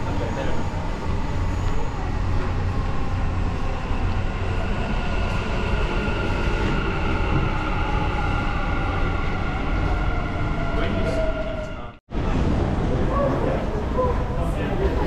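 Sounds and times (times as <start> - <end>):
train whine: 0.0 - 14.6
train low rumble: 0.0 - 15.0.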